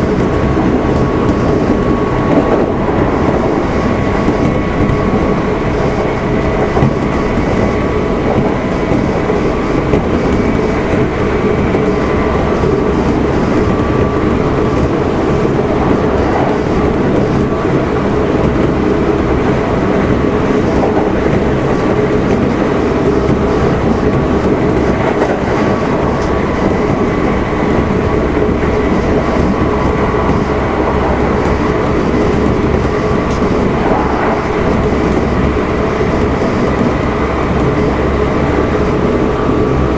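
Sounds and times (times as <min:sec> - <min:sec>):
train wheels running on rails: 0:00.0 - 0:39.9.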